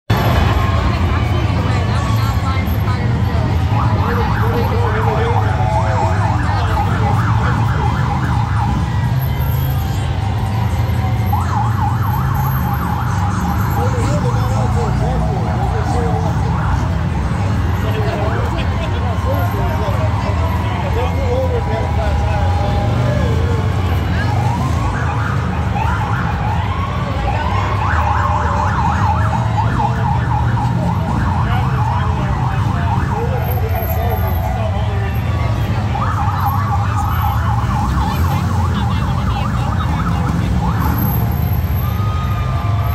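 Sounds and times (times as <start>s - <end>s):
motorcycle engines rumbling: 0.0s - 42.9s
police sirens yelping: 0.1s - 42.9s.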